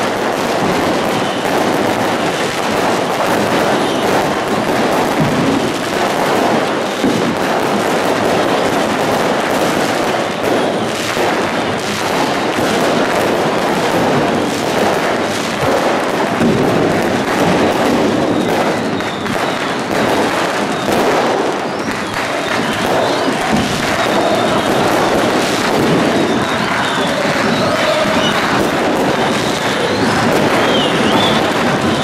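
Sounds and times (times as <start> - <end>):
crowd roar: 0.0 - 32.0
firecrackers crackling: 0.0 - 32.0.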